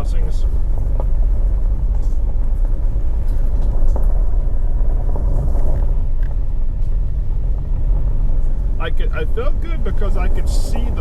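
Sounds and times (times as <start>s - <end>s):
vehicle engine and tyres rumbling: 0.0s - 11.0s.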